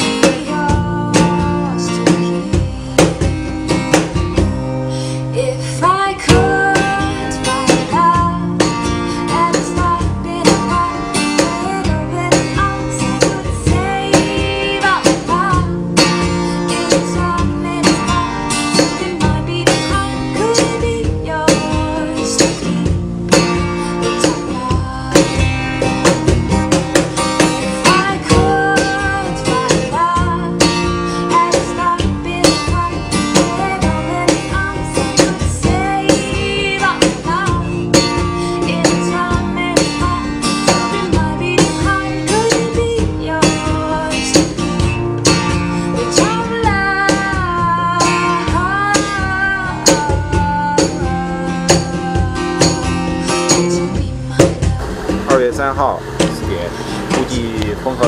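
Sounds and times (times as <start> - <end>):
acoustic guitar song with beat: 0.0 - 58.0.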